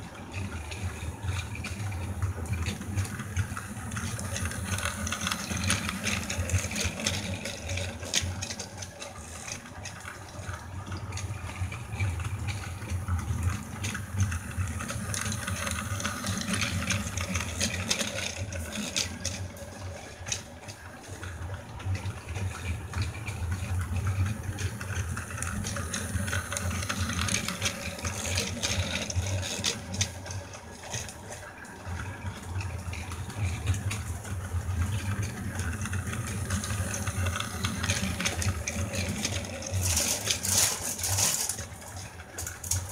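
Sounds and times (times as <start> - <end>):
toy train wheels clicking and rattling: 1.0 - 10.5, 11.4 - 20.6, 22.3 - 31.2, 32.7 - 42.9.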